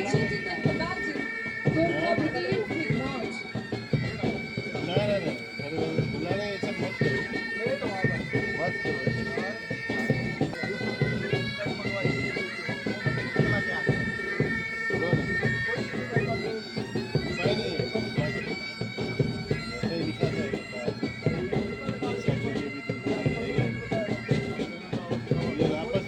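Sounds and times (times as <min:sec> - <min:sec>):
bagpipes playing a tune: 0:00.0 - 0:26.0.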